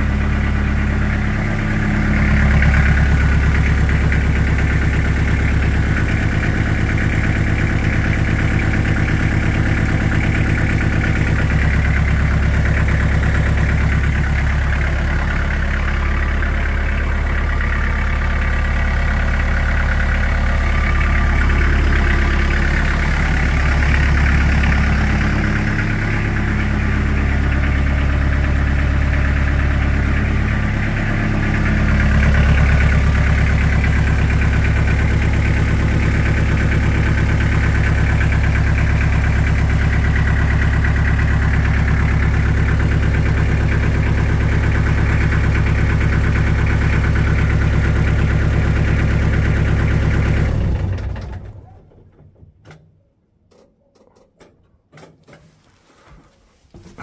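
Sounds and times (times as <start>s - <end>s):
tractor diesel engine idling: 0.0s - 52.5s.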